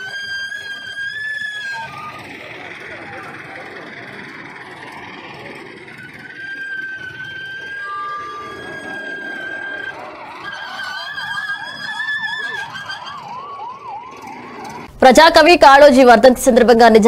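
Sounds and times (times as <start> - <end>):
steady high siren tone: 0.0 - 14.9
warbling siren tone: 0.0 - 14.9
yelping siren: 0.0 - 14.9
road traffic noise: 0.0 - 15.2.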